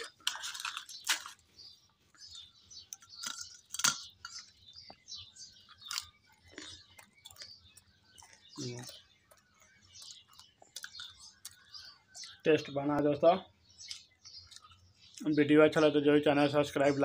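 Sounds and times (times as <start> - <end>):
crunching chews: 0.0 - 12.4, 13.8 - 15.3.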